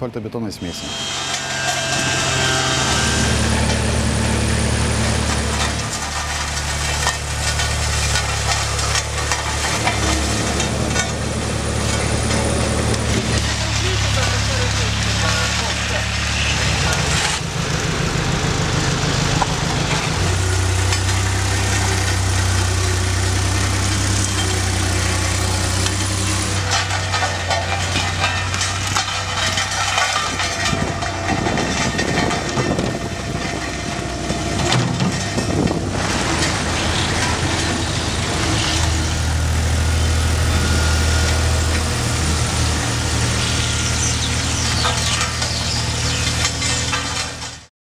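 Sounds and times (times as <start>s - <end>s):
diesel engines running: 0.0s - 47.7s
shovels scraping asphalt: 0.8s - 17.5s, 19.4s - 47.7s.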